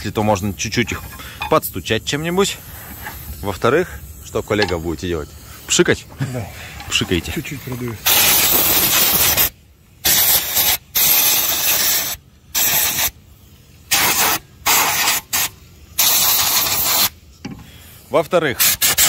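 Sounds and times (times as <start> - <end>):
air blow gun hissing: 0.0 - 19.0.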